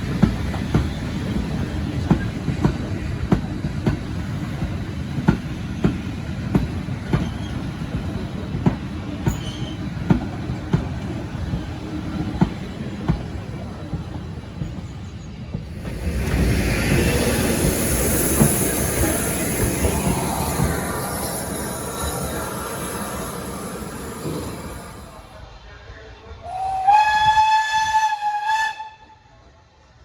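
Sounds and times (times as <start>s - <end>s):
train wheels clicking over rail joints: 0.0s - 25.2s
train rumble: 0.0s - 30.0s.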